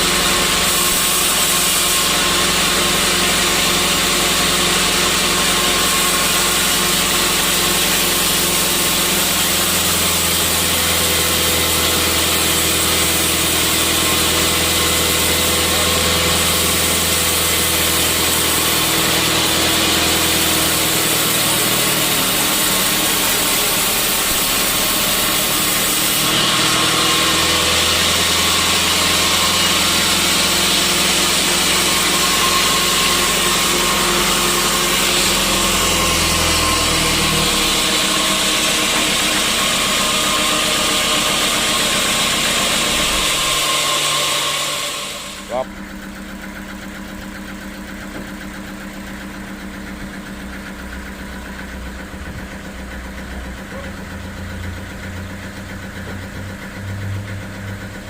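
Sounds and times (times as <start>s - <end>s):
saw cutting through a log: 0.0s - 57.9s
low motor hum: 0.0s - 58.0s.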